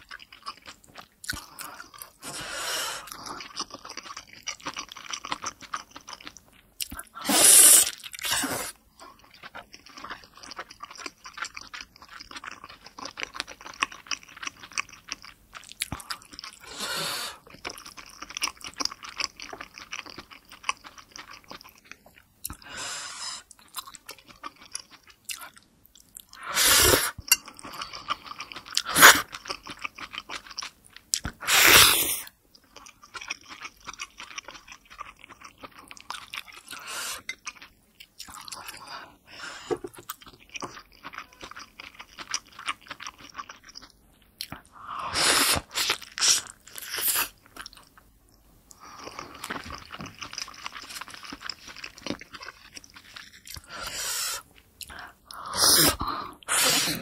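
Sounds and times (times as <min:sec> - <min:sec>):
chewing and wet mouth sounds: 0:00.0 - 0:07.2, 0:07.8 - 0:16.8, 0:17.4 - 0:22.7, 0:23.3 - 0:31.5, 0:32.2 - 0:57.0.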